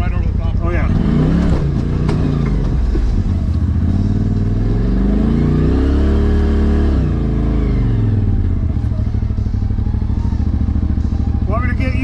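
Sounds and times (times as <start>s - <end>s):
engine pulling: 0.0s - 12.0s.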